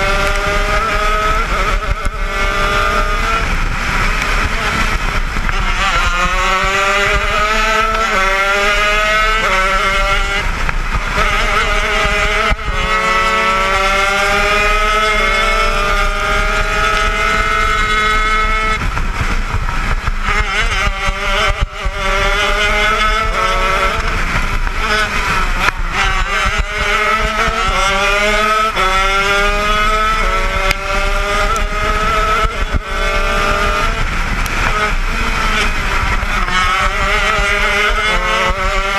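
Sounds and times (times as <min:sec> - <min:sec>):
kart engine at racing speed: 0:00.0 - 0:38.9.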